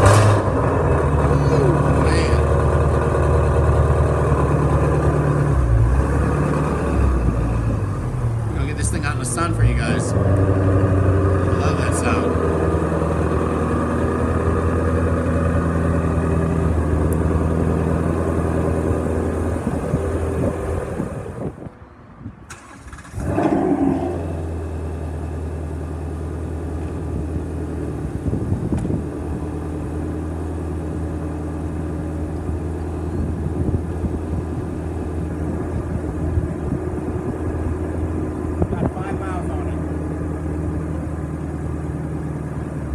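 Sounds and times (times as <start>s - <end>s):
car engine idling: 0.0s - 21.6s, 22.5s - 42.9s
engine rev flare: 0.0s - 21.6s, 22.5s - 42.9s.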